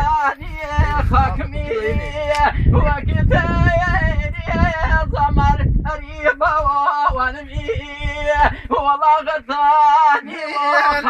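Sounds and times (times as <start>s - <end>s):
low rumble: 0.0s - 9.3s
man singing ornamented melody: 0.0s - 11.0s.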